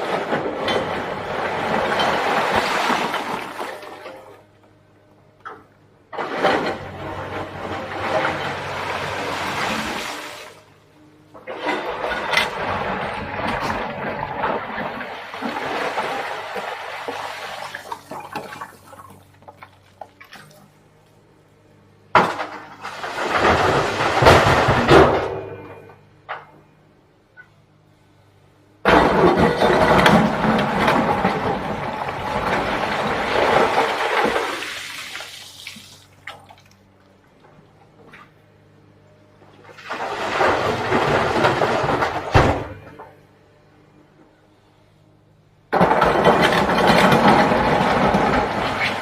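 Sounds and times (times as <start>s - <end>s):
excavator engine running: 0.0s - 49.0s.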